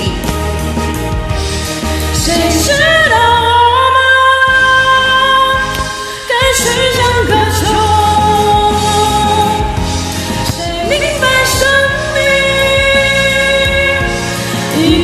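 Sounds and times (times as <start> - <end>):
karaoke backing track: 0.0 - 15.0.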